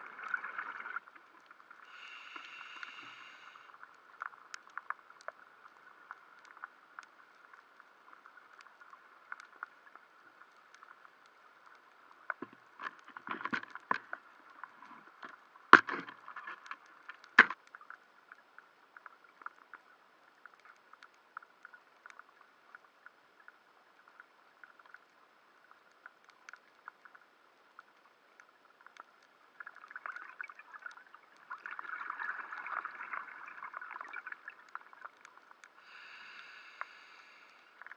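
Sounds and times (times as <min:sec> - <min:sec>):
underwater crackle of clicks: 0:00.0 - 0:37.9.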